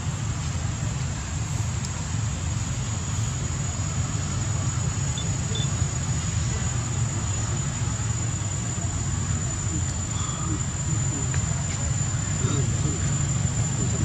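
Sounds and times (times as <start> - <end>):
high-pitched whine: 0.0 - 14.0
low background rumble: 0.0 - 14.0.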